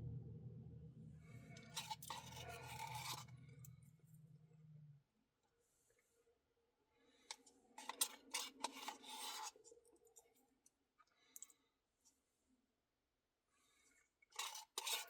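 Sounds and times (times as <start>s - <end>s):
faint clicking and scraping: 0.0s - 6.4s, 7.0s - 12.4s, 13.6s - 15.0s.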